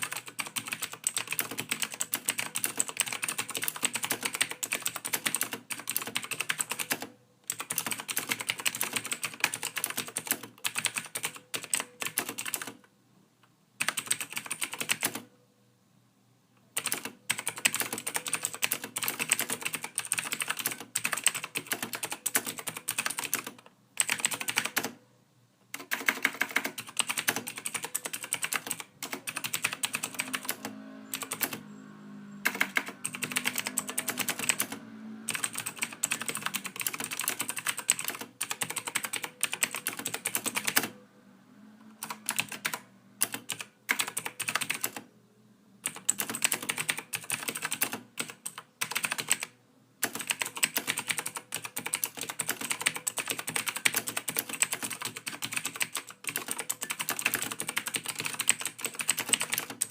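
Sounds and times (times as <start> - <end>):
typing on computer keyboard: 0.0 - 12.8, 13.8 - 15.3, 16.8 - 25.0, 25.7 - 31.6, 32.4 - 41.0, 42.0 - 45.1, 45.8 - 59.9.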